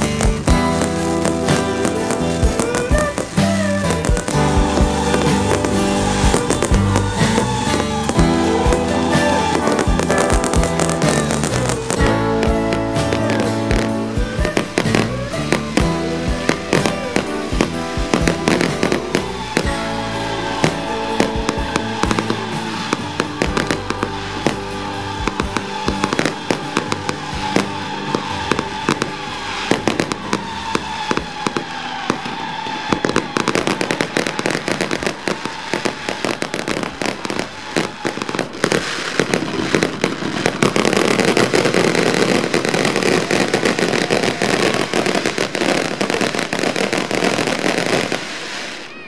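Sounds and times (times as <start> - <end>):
fireworks bangs and crackles: 0.0 - 49.0
music: 0.0 - 49.0.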